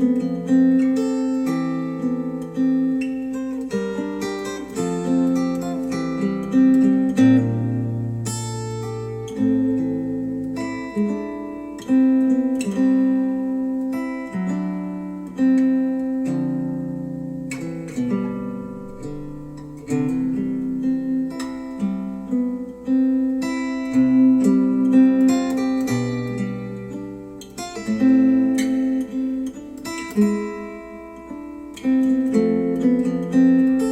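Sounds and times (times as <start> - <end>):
acoustic guitar piece: 0.0 - 33.9.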